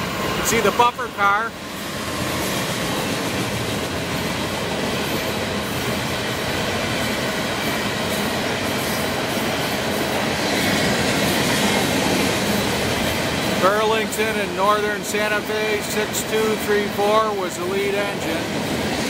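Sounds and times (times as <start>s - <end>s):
train wheels clattering on track: 0.0s - 19.0s.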